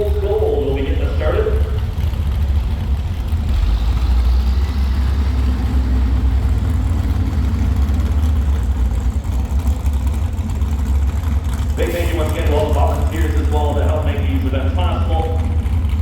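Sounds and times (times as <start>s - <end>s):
vehicle engines idling: 0.0s - 16.0s.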